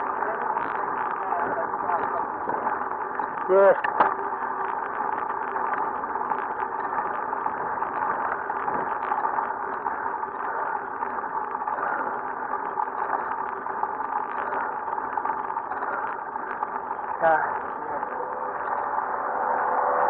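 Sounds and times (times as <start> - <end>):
bicycle tyre noise: 0.0 - 20.0
faint steady hum: 0.0 - 20.0.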